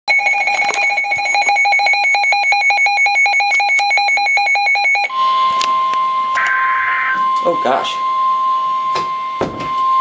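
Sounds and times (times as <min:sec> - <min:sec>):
rapid electronic alarm beeping: 0:00.1 - 0:10.0.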